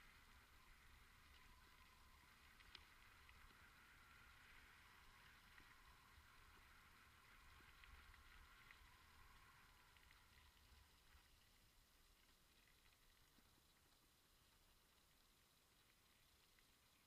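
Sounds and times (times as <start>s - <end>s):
faint clicks: 0.0s - 17.0s
faint steady hiss: 0.0s - 17.0s.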